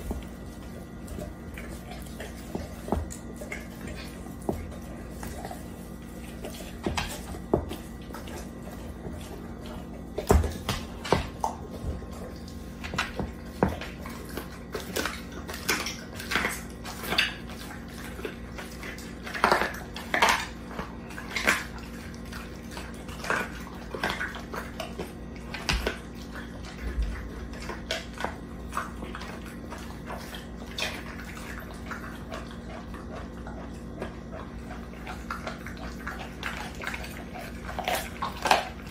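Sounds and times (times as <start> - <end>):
dog licking and gnawing raw meat: 0.0 - 38.9.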